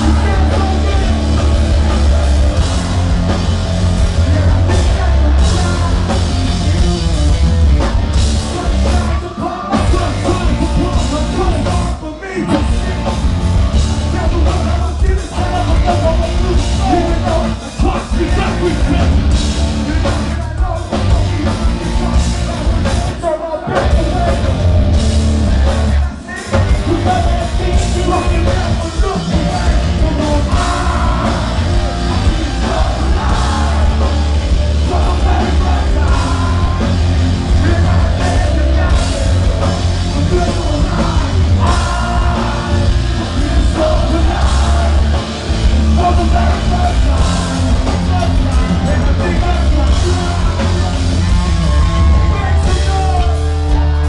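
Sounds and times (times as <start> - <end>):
live rock band playing: 0.0 - 54.0
vocalist singing and shouting: 0.0 - 54.0.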